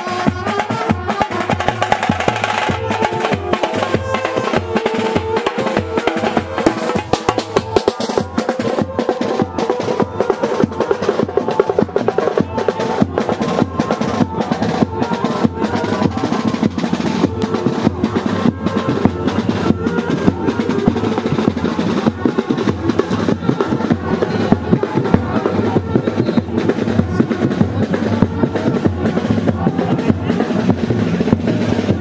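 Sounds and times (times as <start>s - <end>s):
drum-led instrumental music: 0.0s - 32.0s.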